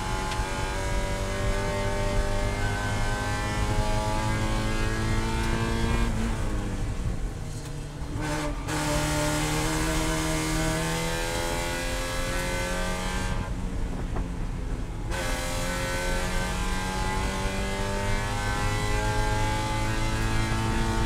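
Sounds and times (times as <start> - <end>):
race car engine accelerating: 0.0 - 7.0, 8.1 - 13.5, 15.1 - 21.0.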